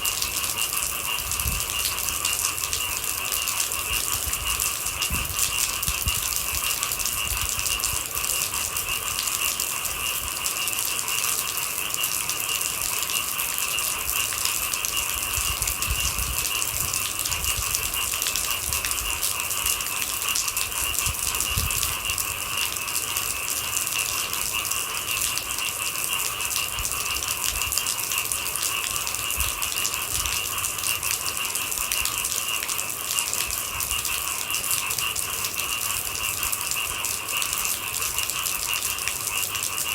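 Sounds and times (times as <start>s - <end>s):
night insects chirping: 0.0s - 39.9s
steady rain patter: 0.0s - 39.9s.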